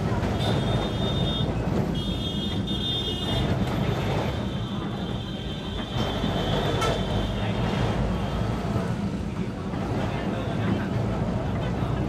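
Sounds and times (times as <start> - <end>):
tram running low rumble: 0.0 - 12.0.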